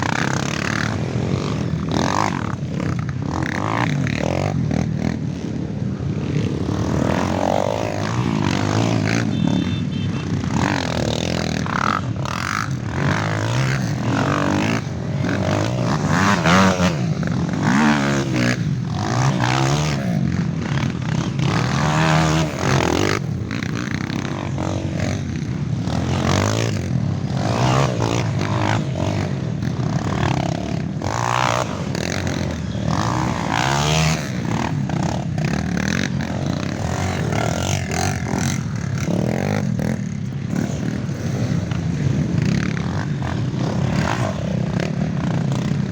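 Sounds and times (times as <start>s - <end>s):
trail motorcycles revving past: 0.0s - 45.9s.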